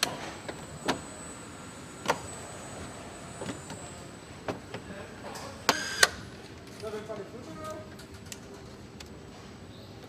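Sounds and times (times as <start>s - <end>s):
steady factory hum: 0.0s - 10.0s.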